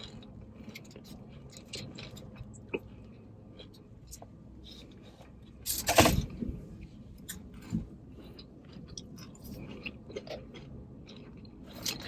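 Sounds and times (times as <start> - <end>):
person chewing crunchy salad: 0.0 - 12.0.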